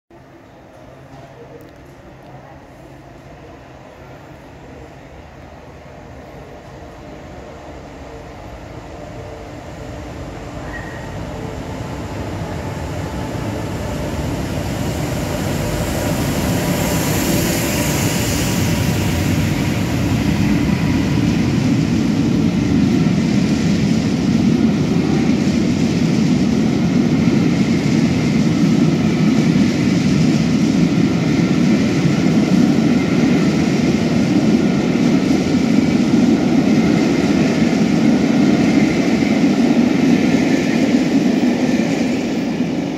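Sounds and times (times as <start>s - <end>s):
electric locomotive passing: 0.1s - 42.9s
train wheels rumbling on rails: 0.1s - 42.9s.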